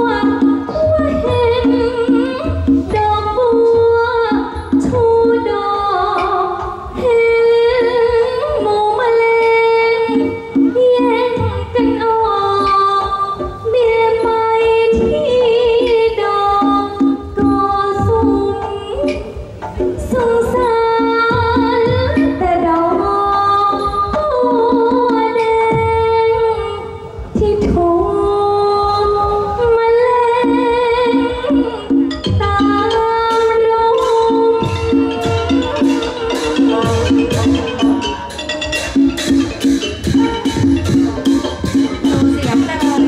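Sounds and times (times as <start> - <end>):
woman singing through microphone: 0.0 - 38.8, 39.7 - 43.0
musical accompaniment with beat: 0.0 - 43.0.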